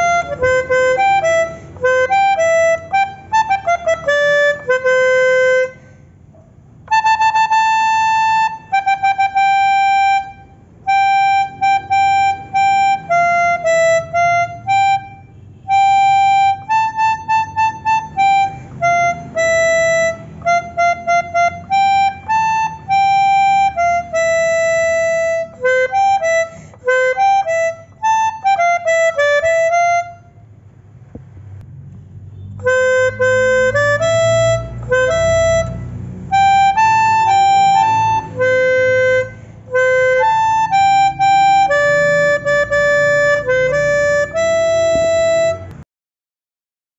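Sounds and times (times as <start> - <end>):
melodica melody: 0.0 - 30.6, 32.1 - 45.8.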